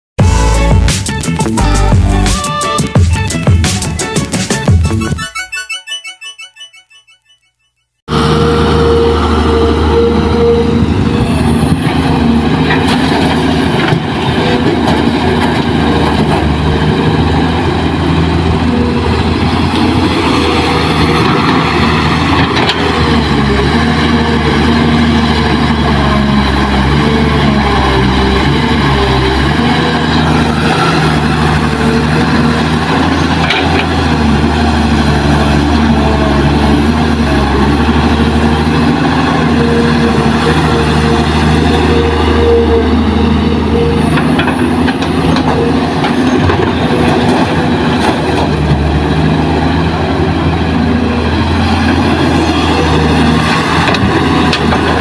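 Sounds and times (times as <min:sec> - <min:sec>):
excavator diesel engine running: 0:00.2 - 0:05.4, 0:08.1 - 0:55.0.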